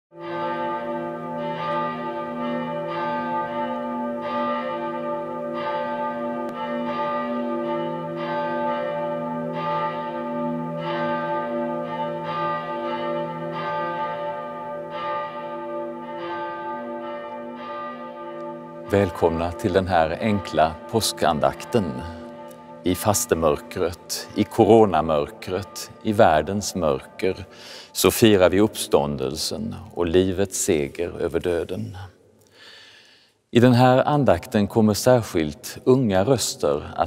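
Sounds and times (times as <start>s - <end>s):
church bells ringing: 0.1s - 32.2s, 33.6s - 37.0s.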